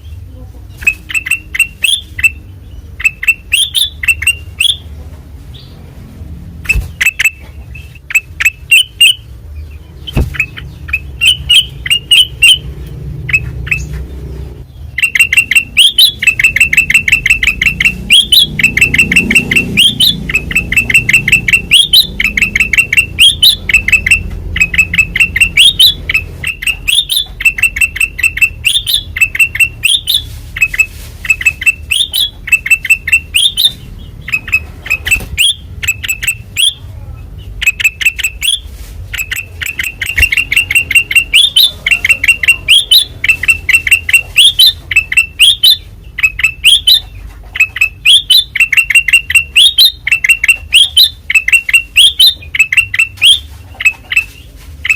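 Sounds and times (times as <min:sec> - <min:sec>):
bulbul singing chattering notes: 0:00.0 - 0:04.9, 0:06.6 - 0:54.9.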